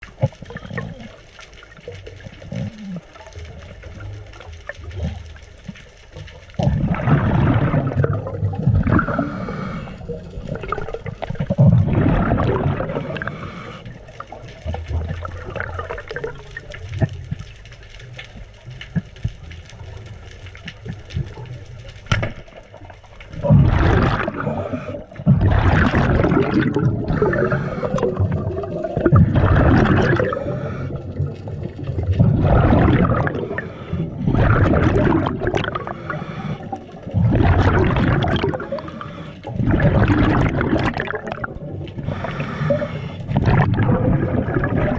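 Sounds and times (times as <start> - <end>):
water rushing and gurgling: 0.0 - 44.9.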